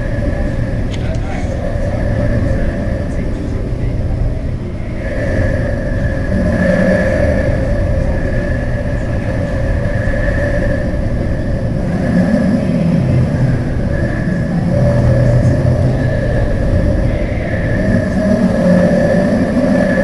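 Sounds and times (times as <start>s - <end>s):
steady whine: 0.0s - 20.0s
vehicle engine rumble: 0.0s - 20.0s.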